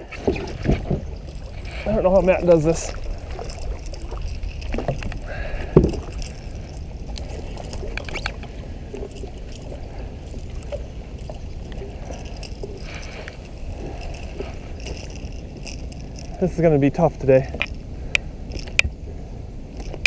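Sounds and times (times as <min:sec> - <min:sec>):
wind and moving water: 0:00.0 - 0:20.0.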